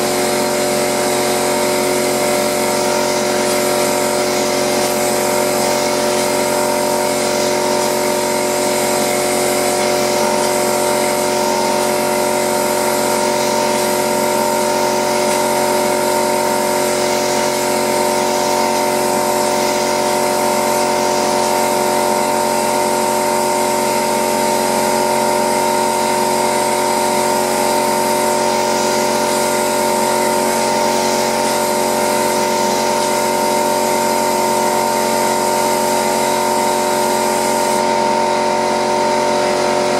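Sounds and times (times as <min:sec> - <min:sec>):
air compressor motor hum: 0:00.0 - 0:39.9.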